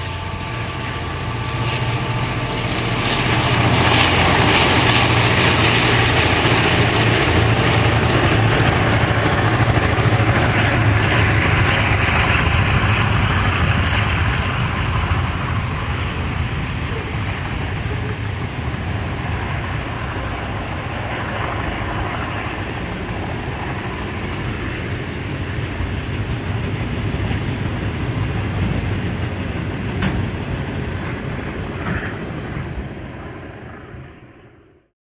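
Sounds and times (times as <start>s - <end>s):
train wagons rumbling on rails: 0.0s - 34.2s.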